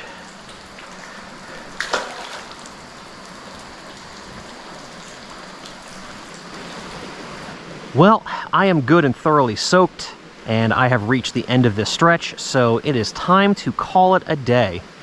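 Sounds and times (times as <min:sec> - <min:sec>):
rain falling on creek: 0:00.0 - 0:15.0.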